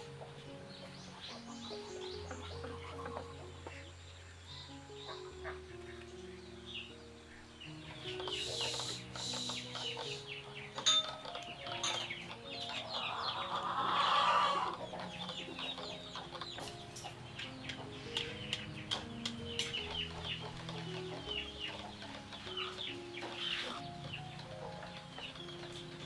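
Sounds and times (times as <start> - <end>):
chickens clucking and chirping: 0.0 - 26.0
soft background music: 0.0 - 26.0.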